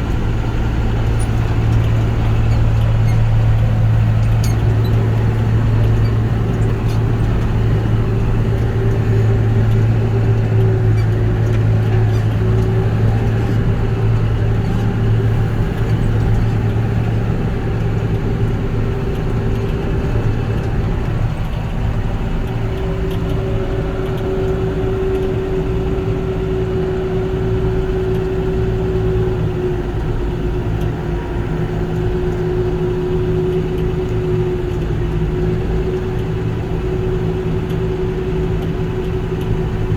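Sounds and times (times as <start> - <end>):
high engine whine: 0.0 - 39.9
machinery engine humming: 0.0 - 39.9.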